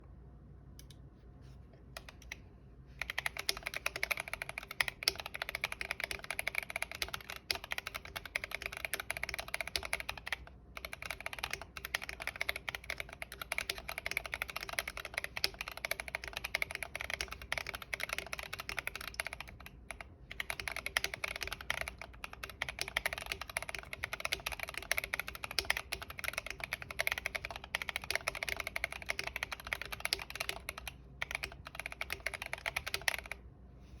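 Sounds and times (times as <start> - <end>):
fast typing on mechanical keyboard: 3.0 - 33.4.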